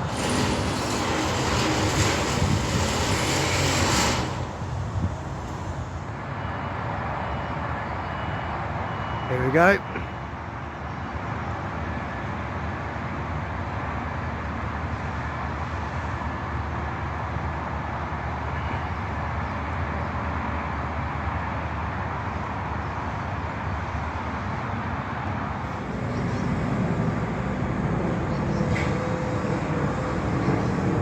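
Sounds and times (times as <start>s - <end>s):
low rumble of traffic: 0.0s - 31.0s.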